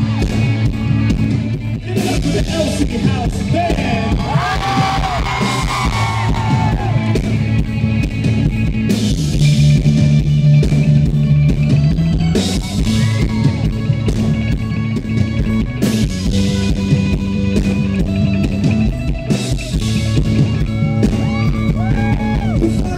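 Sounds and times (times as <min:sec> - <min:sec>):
drum kit: 0:00.0 - 0:22.9
electric guitar: 0:00.0 - 0:22.9
held bass notes: 0:00.0 - 0:22.9.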